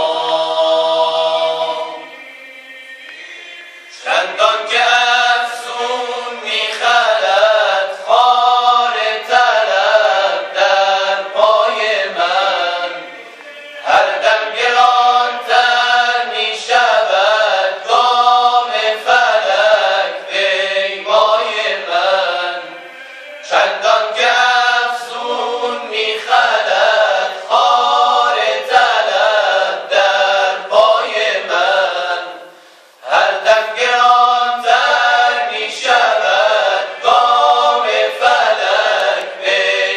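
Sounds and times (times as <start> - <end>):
male group singing devotional chant: 0.0 - 39.9.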